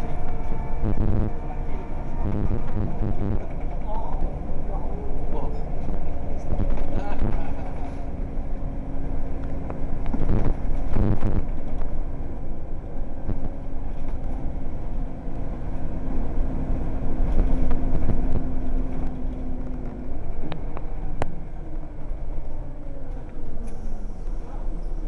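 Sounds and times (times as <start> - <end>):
bus diesel engine running: 0.0 - 25.0
road rumble: 0.0 - 25.0.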